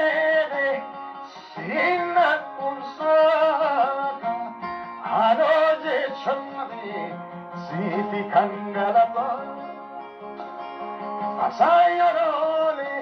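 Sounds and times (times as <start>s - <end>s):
man singing: 0.0s - 10.0s, 11.0s - 13.0s
acoustic guitar: 0.0s - 13.0s.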